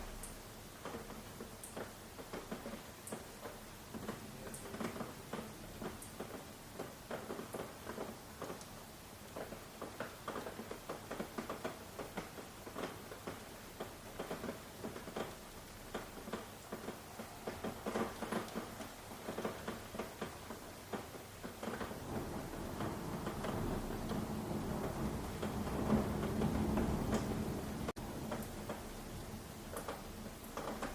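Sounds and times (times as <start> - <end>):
faint steady rain hiss: 0.0 - 30.9
rain drips and pattering drops: 0.0 - 30.9.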